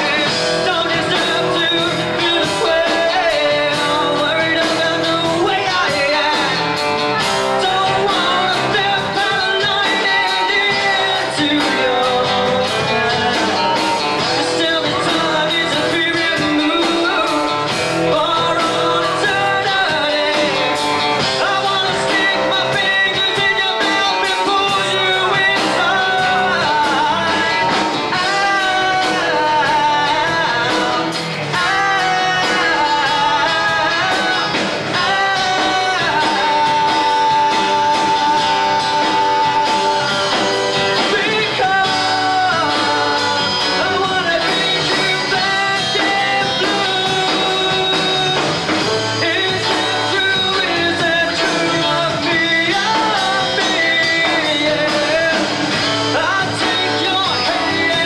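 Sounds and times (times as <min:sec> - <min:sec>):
live rock band: 0:00.0 - 0:58.0
person singing: 0:00.0 - 0:58.0.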